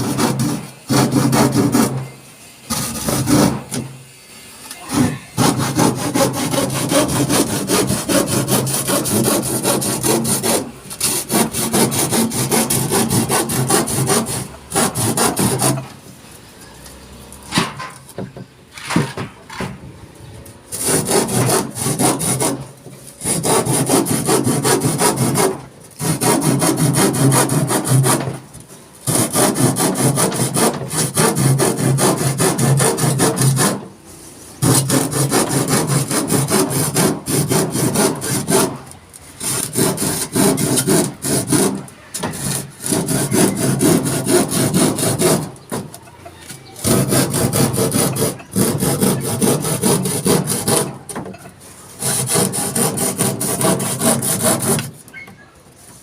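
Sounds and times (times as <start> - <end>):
handsaw cutting wood: 0.0 - 2.0, 2.7 - 3.9, 4.9 - 16.0, 20.7 - 28.4, 29.0 - 33.9, 34.6 - 45.9, 46.8 - 51.2, 51.9 - 55.0.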